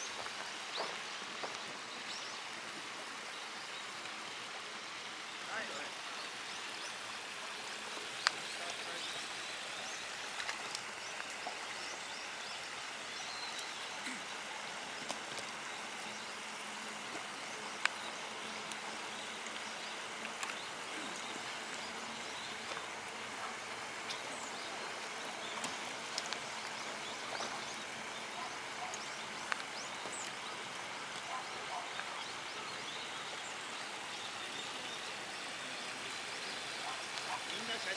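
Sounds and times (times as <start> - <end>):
running water hiss: 0.0 - 37.9.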